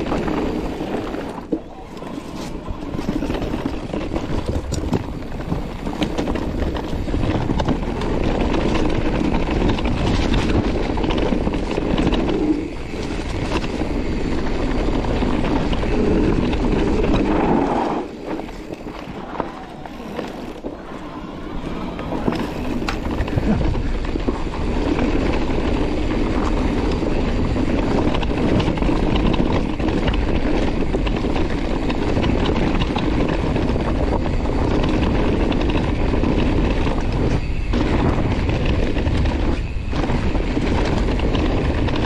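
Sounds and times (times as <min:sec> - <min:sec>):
bike clicks and rattles: 0:00.0 - 0:42.0
bike tyre rumble: 0:00.0 - 0:42.0
wind noise: 0:00.0 - 0:42.0.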